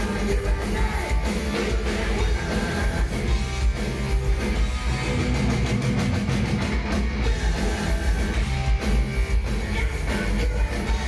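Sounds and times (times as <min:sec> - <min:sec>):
heavy metal band playing: 0:00.0 - 0:11.0.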